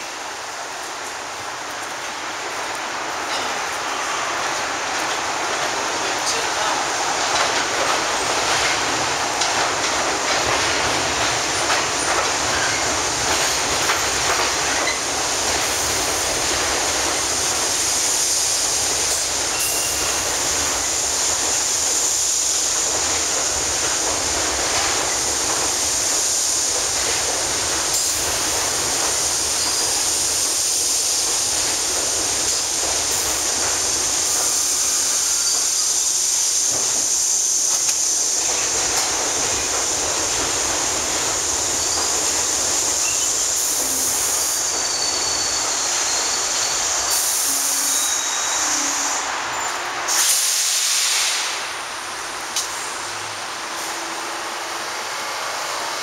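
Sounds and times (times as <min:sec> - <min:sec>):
subway train wheels rumbling: 0:00.0 - 0:56.0.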